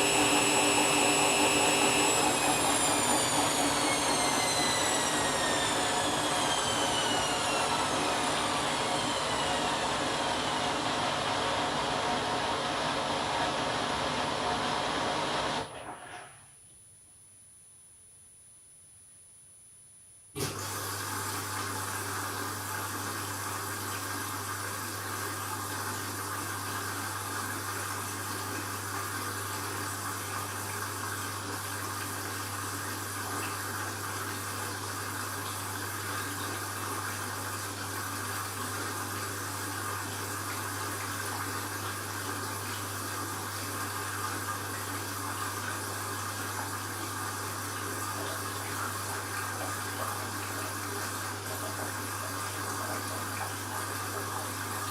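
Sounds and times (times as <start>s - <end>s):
washing machine water rushing: 0.0s - 16.3s, 20.4s - 54.9s
washing machine low hum: 0.0s - 16.4s, 20.4s - 54.9s.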